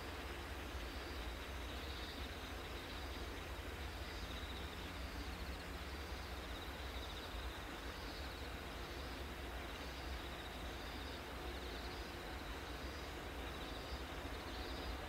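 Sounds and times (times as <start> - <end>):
insects chirring: 0.7 - 15.0.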